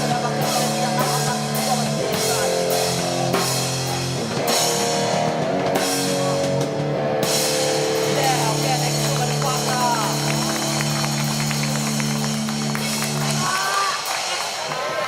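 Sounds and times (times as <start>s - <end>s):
distorted electric guitar chords: 0.0s - 13.6s
drum kit: 0.0s - 15.0s.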